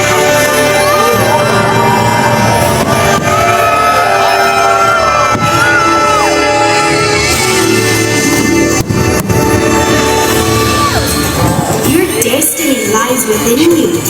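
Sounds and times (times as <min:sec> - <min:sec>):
orchestral backing music: 0:00.0 - 0:14.0.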